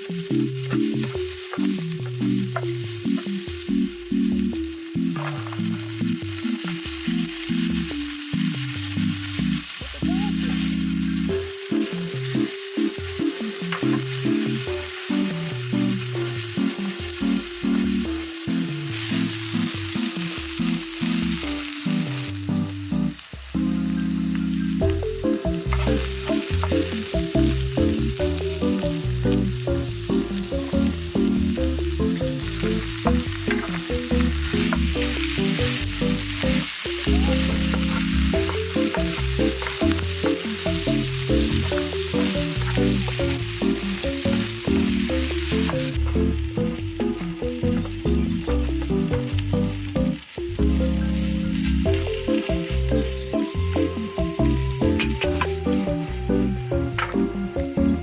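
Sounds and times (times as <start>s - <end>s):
stirring in a pan: 0.0s - 23.7s, 24.5s - 58.0s
background music with bass line: 0.0s - 58.0s
food sizzling in a pan: 0.0s - 58.0s.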